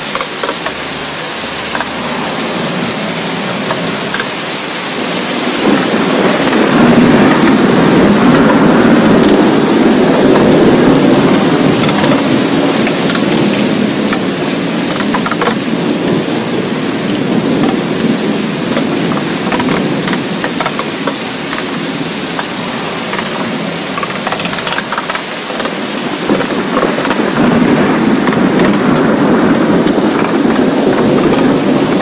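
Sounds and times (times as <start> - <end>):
deep thunder rumble: 0.0 - 32.0
steady rain falling: 0.0 - 32.0.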